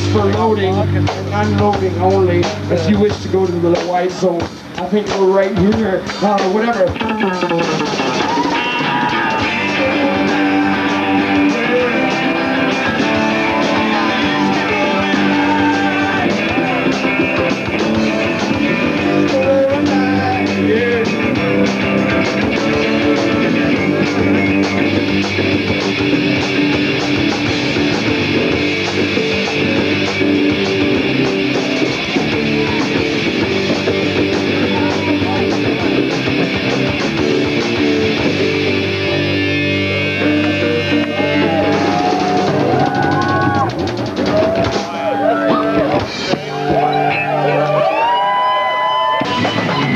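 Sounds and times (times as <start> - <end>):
bass guitar: 0.0 - 49.9
drum kit: 0.0 - 49.9
electric guitars: 0.0 - 49.9.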